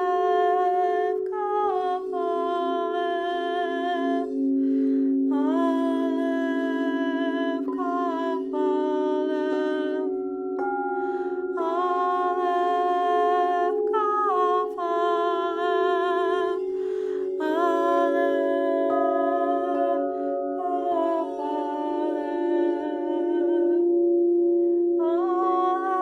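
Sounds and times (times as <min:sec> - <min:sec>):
singing bowls drone: 0:00.0 - 0:26.0
woman toning wordless notes: 0:00.0 - 0:26.0.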